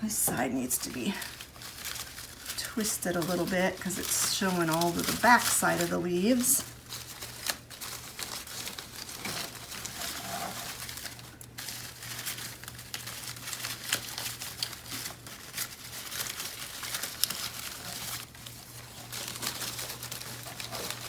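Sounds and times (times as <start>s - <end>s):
leaves rustling and crinkling: 0.0s - 21.0s.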